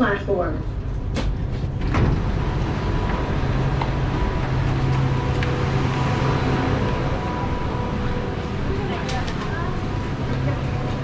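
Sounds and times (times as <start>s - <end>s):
low steady drone: 0.0s - 11.0s
train machinery humming: 0.0s - 11.0s.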